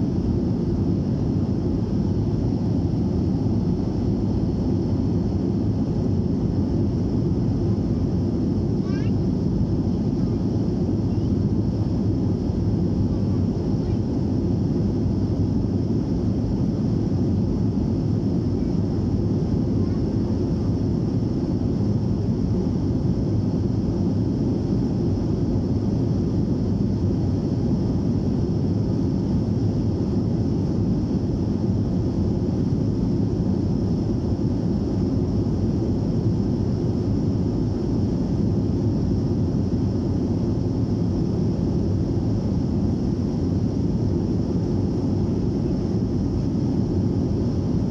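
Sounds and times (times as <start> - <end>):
airliner cabin engine rush: 0.0 - 47.9
faint high engine whine: 0.0 - 47.9.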